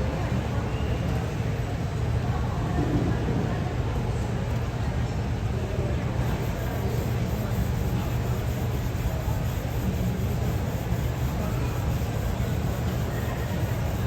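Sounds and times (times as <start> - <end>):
low rumble and hum of terminal: 0.0 - 14.0.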